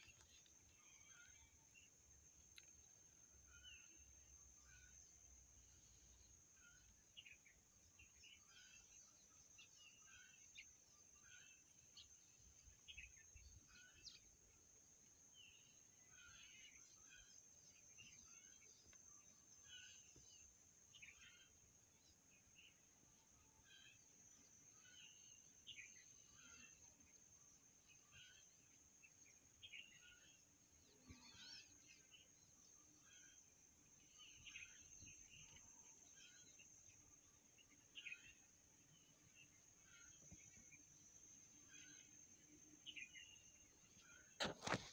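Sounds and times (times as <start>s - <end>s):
small birds chirping: 0.0s - 44.9s
steady high-pitched whine: 0.0s - 44.9s.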